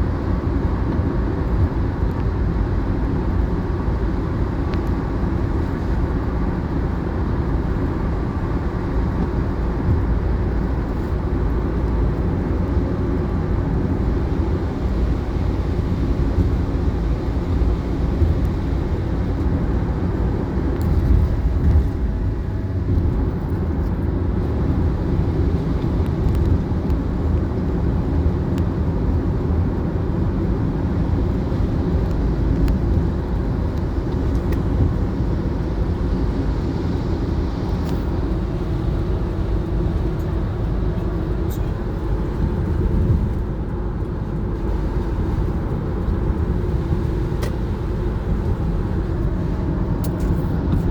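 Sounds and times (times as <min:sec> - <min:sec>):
steady low rumble: 0:00.0 - 0:50.9.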